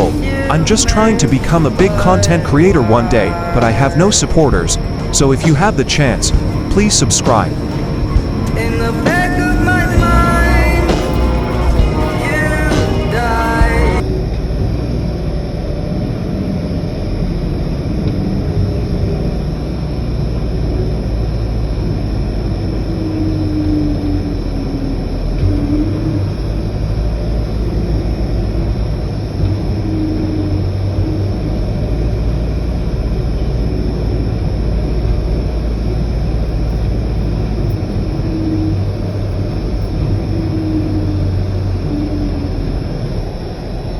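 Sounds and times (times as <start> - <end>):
faint engine tone: 0.0 - 43.9
vehicle driving on road: 0.0 - 43.9.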